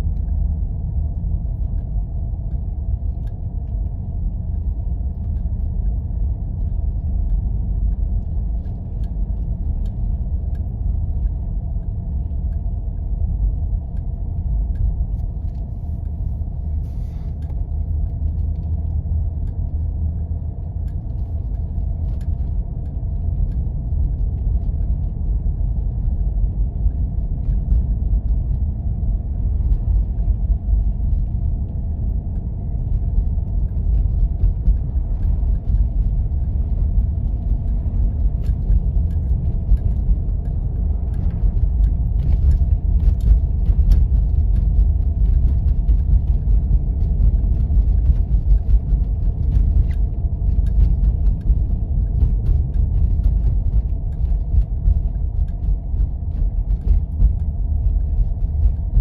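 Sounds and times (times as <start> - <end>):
vehicle rumbling over snow: 0.0 - 59.0.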